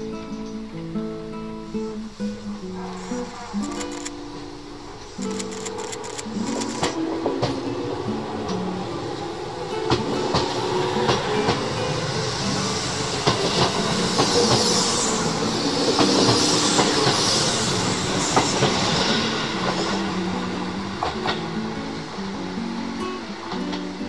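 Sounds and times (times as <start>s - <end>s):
hiss: 0.0s - 24.0s
train running rumble: 2.0s - 24.0s
train wheels clicking over rail joints: 2.9s - 22.2s.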